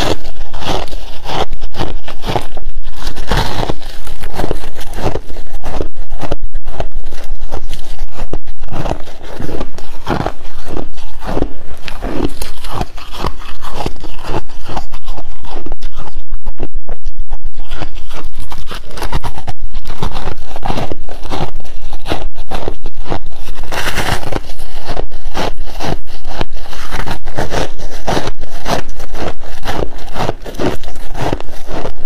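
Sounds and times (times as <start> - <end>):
crushed ice crunching: 0.0 - 32.0
ice packed by gloved hands: 0.0 - 32.0.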